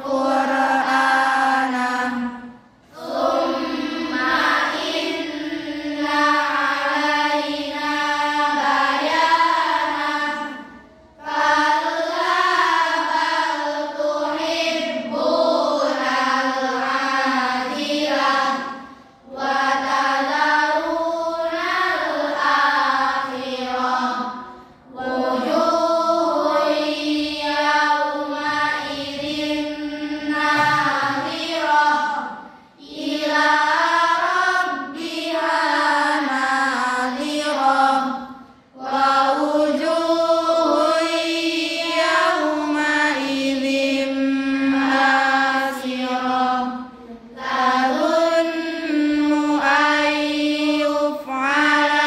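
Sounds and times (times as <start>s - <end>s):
girls chanting recitation in unison: 0.0s - 52.0s.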